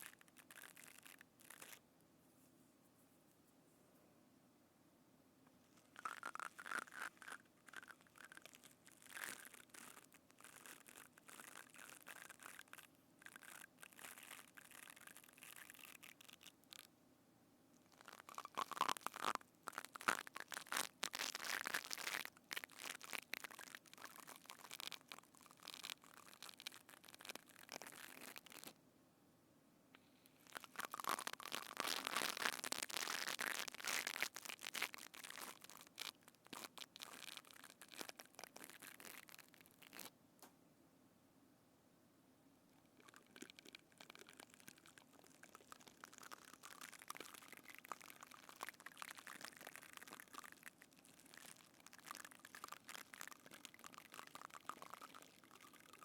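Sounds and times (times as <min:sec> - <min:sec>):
crunching and crackling: 0:00.0 - 0:01.8, 0:05.9 - 0:16.9, 0:17.9 - 0:28.8, 0:30.4 - 0:40.1, 0:43.0 - 0:56.0.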